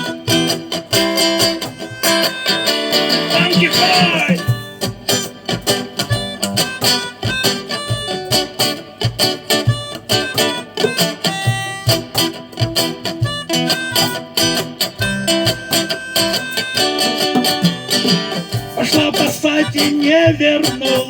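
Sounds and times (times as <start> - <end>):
harmonica: 0.0 - 21.0
strummed acoustic guitar: 0.0 - 21.0.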